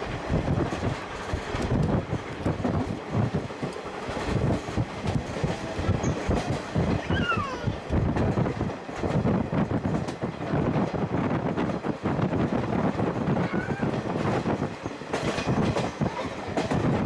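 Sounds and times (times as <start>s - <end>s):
train rumble: 0.0s - 17.0s
wheels clickety-clack over rail joints: 0.0s - 17.0s.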